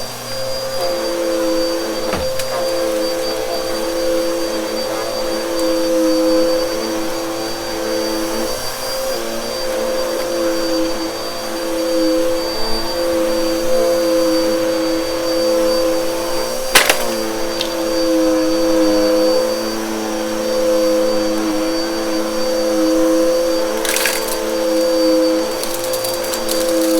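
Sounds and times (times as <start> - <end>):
vacuum cleaner on rug: 0.0 - 26.9.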